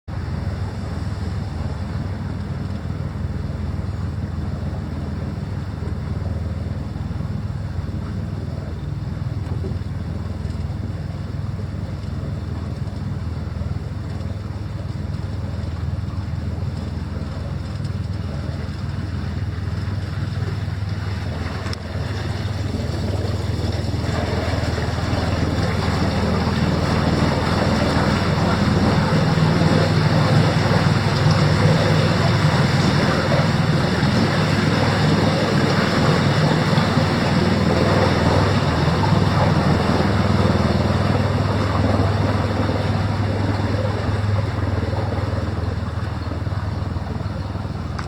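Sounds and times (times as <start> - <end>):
outboard motor running: 0.0 - 48.0
rushing wind: 0.1 - 48.0
water rushing: 0.1 - 48.0.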